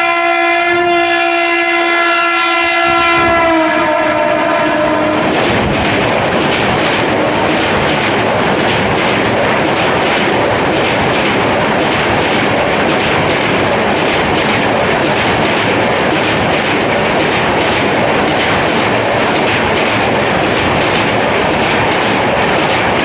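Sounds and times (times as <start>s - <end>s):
train wheels rushing on rails: 0.0s - 23.0s
wheels clacking over rail joints: 1.9s - 23.0s.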